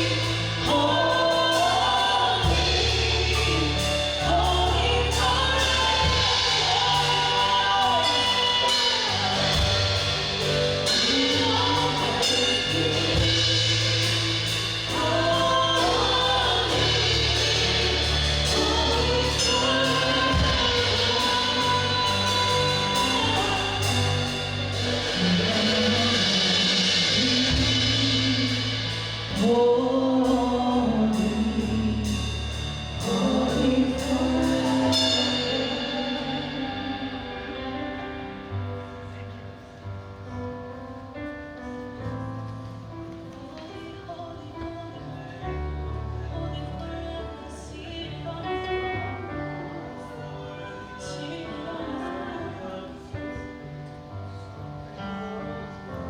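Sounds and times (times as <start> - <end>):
worship band with singers: 0.0 - 56.0.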